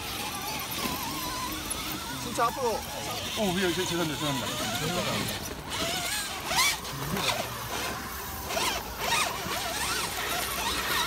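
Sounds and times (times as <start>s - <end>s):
electric motors whirring: 0.0s - 11.0s.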